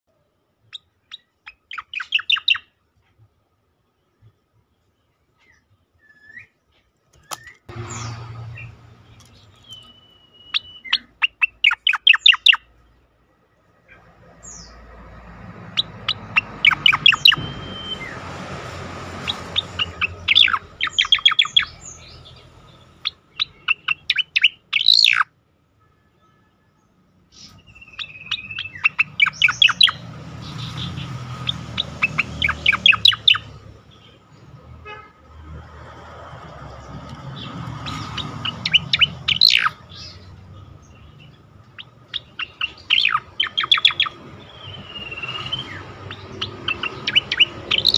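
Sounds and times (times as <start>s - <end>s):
bird singing: 0.6s - 2.8s, 4.0s - 35.0s, 36.7s - 47.9s.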